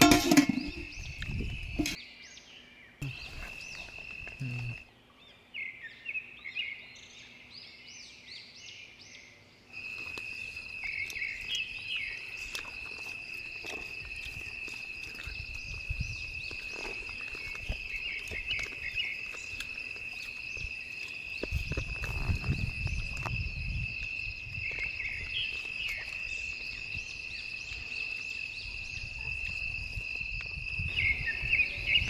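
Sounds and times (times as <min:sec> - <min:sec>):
crickets chirping: 0:00.0 - 0:02.0, 0:03.0 - 0:04.9, 0:08.8 - 0:32.0.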